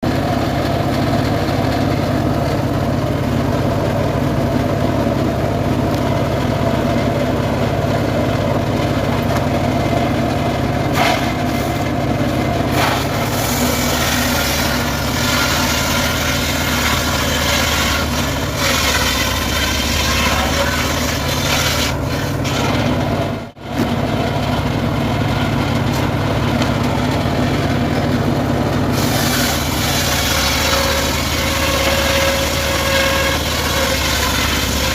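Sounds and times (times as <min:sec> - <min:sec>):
sawmill engine sawing wood: 0:00.0 - 0:34.9.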